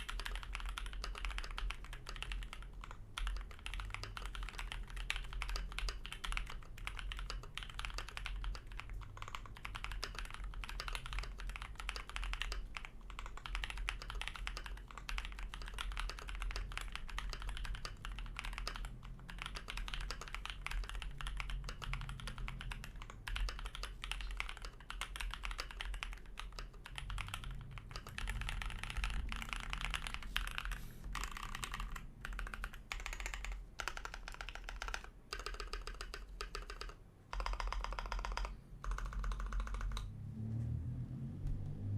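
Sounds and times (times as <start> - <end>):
mechanical keyboard typing: 0.0 - 40.1.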